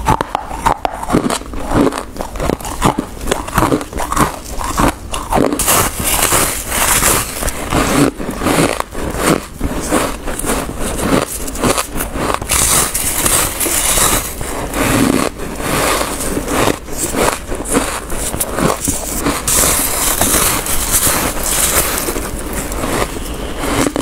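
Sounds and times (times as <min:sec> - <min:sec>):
chewing and crunching ice: 0:00.0 - 0:24.0.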